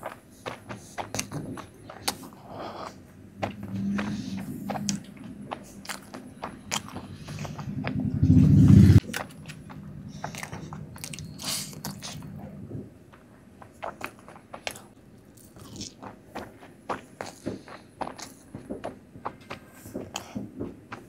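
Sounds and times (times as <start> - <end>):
chewing and biting soft food: 0.3 - 19.0.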